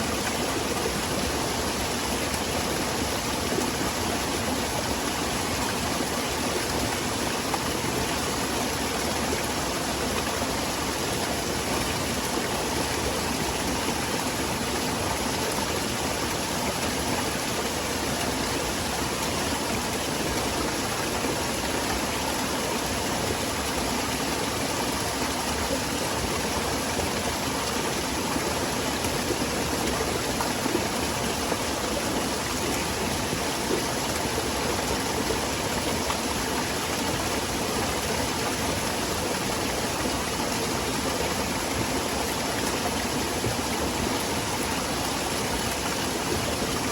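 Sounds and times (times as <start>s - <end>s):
small waterfall splashing: 0.0s - 46.9s.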